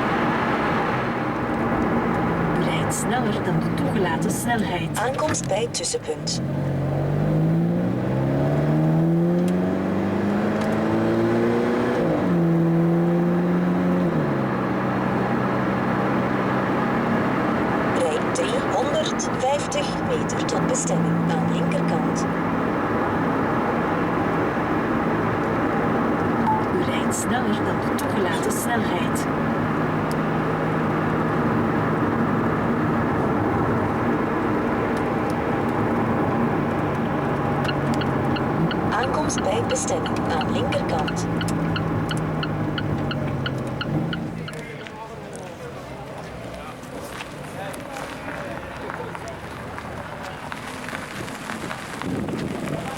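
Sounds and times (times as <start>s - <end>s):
gear change: 0.0s - 44.9s
car engine accelerating: 0.0s - 52.9s.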